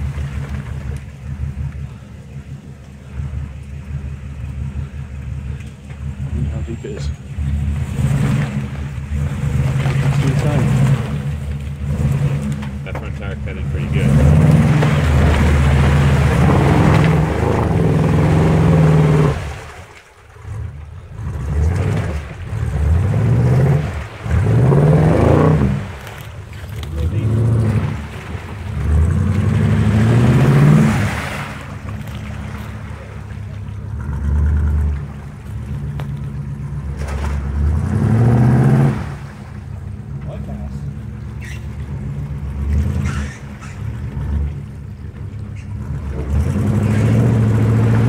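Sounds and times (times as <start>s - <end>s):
truck engine revving: 0.0s - 48.0s
wheels churning through mud: 0.0s - 48.0s.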